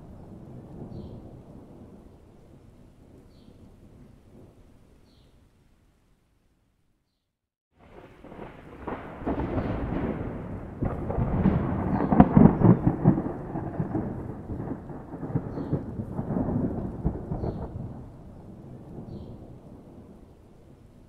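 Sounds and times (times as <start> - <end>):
thunder rumbling and crackling: 0.0 - 4.7, 7.8 - 21.0.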